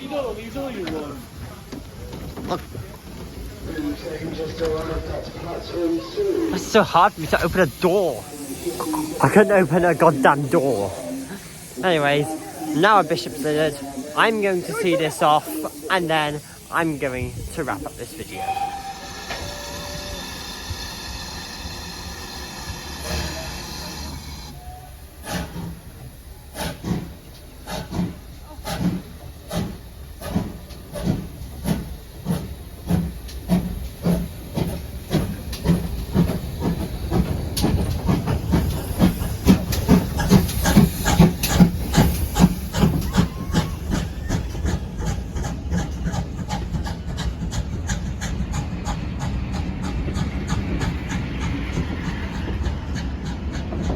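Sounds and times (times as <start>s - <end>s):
steam hissing: 0.0s - 53.9s
steam locomotive exhaust beats: 0.3s - 53.9s.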